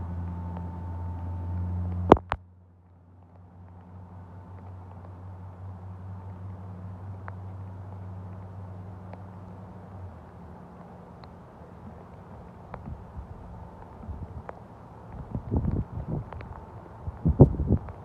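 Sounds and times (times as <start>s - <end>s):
faint outdoor noise: 0.0s - 18.0s
low mechanical hum: 0.0s - 18.0s.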